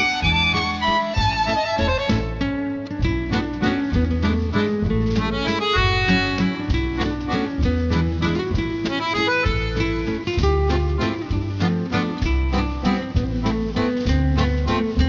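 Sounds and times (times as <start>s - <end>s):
bass line: 0.0s - 15.0s
quick plucked notes: 0.0s - 15.0s.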